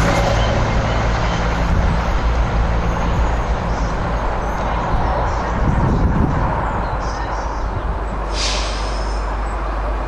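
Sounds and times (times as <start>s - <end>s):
diesel train hum: 0.0s - 10.0s
train wheels rumbling on rails: 0.0s - 10.0s.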